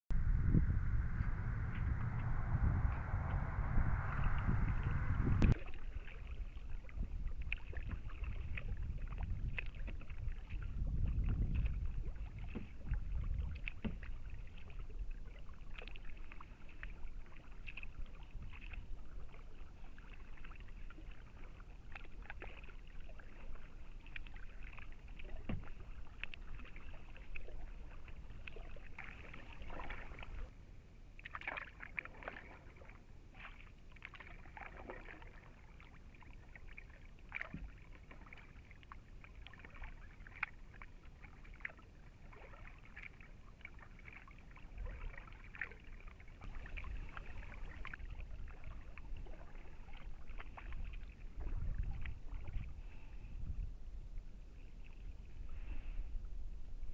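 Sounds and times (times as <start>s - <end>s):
kayak paddle splashing: 5.4s - 30.5s, 31.2s - 53.4s.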